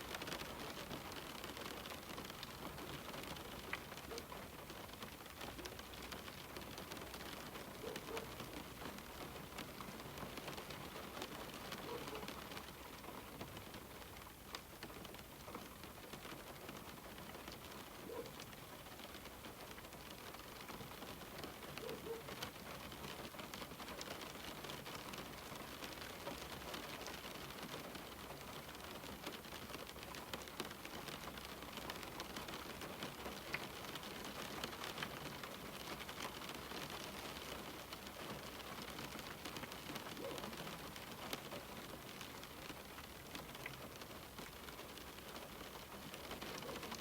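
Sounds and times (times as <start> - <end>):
rain on a window: 0.0 - 47.0.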